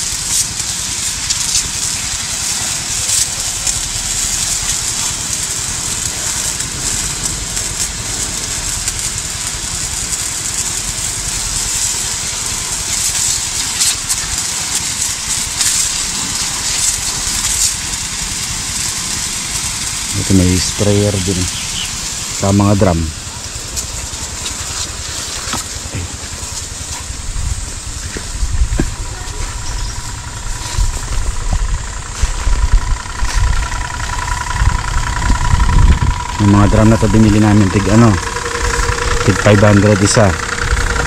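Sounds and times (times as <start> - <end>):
high-pressure water jet hissing: 0.0 - 41.0
small engine power sprayer running: 0.0 - 41.0.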